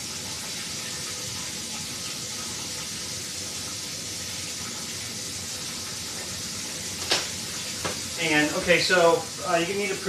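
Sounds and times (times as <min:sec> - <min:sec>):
water running from a tap: 0:00.0 - 0:10.0.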